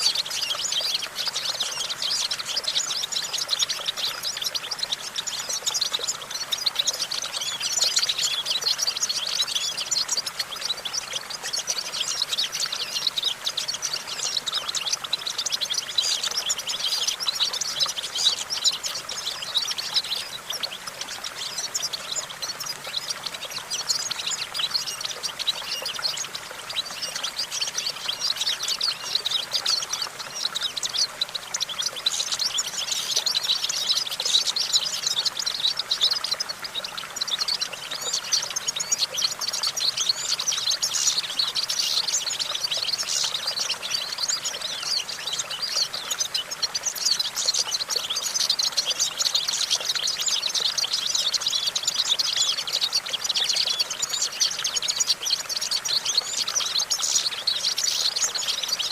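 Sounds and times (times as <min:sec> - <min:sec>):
goldfinch twittering song: 0:00.0 - 0:58.9.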